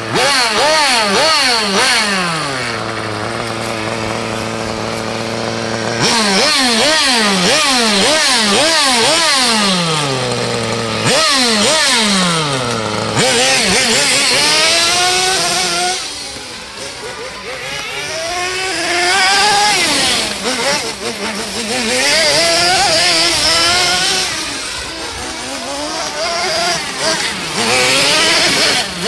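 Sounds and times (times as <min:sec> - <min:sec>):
small nitro engine revving: 0:00.0 - 0:29.0.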